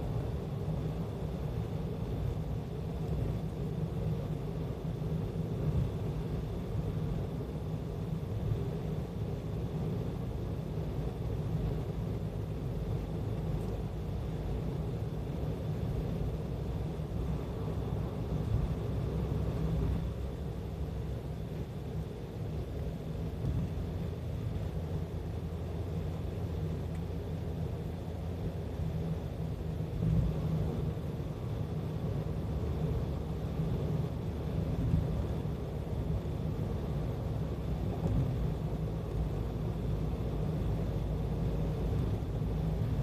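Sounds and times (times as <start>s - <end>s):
car cabin road and engine rumble: 0.0s - 43.0s.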